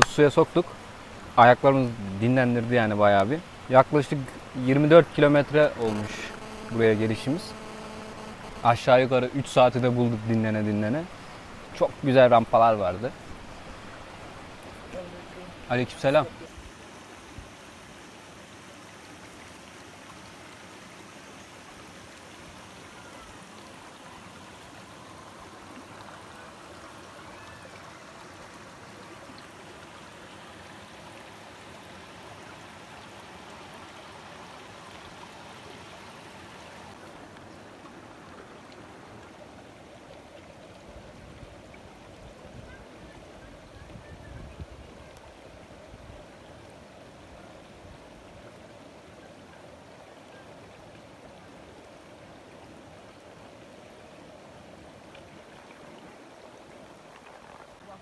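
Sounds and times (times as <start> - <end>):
water running down a cascade: 0.0 - 49.0.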